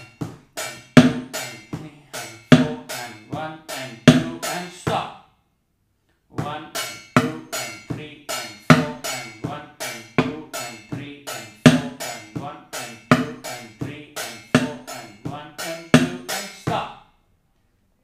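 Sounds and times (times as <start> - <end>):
spoons beating plate and bucket: 0.0 - 5.0, 6.4 - 16.9.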